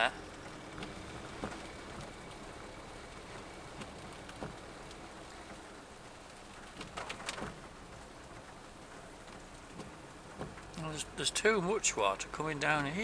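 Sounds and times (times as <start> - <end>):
rain hiss: 0.1 - 13.0.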